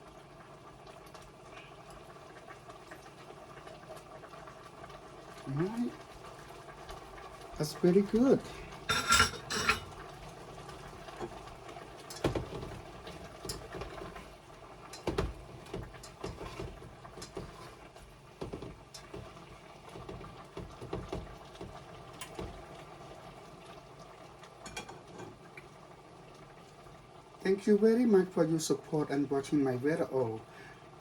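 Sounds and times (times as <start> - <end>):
soup bubbling in a pot: 0.0 - 31.0.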